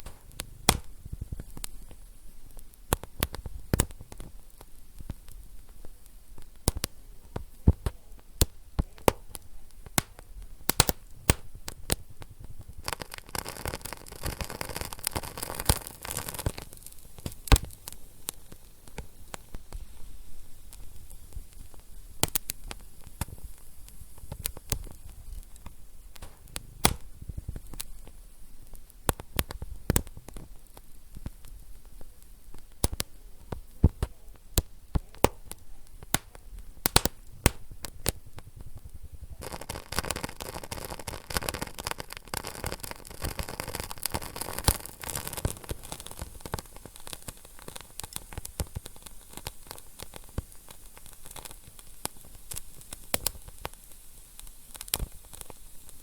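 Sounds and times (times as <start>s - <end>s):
steady hiss: 0.0s - 56.0s
wood fire crackling and popping: 0.0s - 56.0s.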